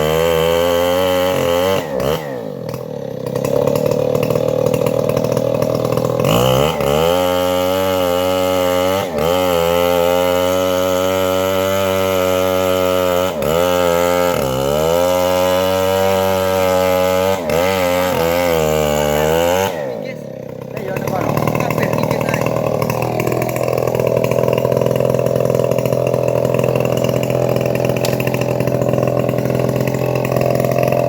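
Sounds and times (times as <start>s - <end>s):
chainsaw running at high revs: 0.0s - 31.0s.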